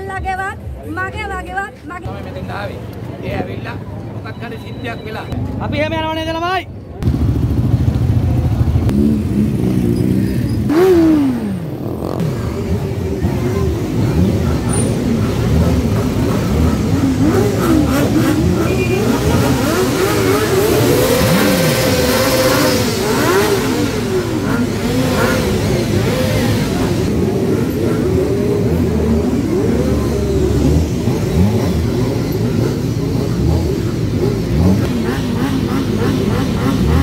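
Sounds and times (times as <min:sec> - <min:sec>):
motorcycle engines revving: 0:00.0 - 0:37.0.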